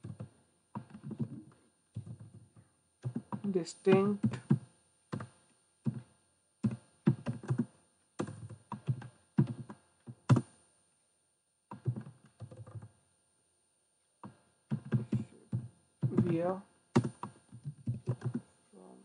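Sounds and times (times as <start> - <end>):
typing on computer keyboard: 0.0 - 2.4, 3.0 - 10.5, 11.7 - 12.9, 14.2 - 18.5.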